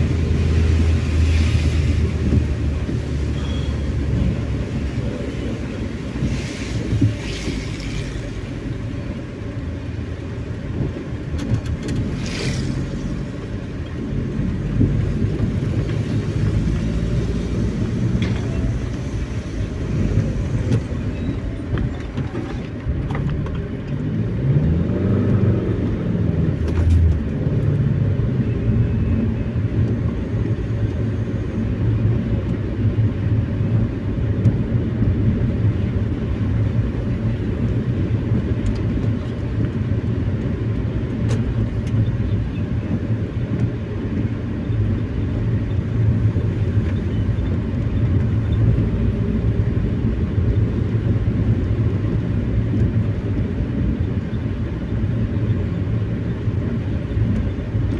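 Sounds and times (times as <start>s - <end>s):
vehicle engine and tyre rumble: 0.0s - 57.9s.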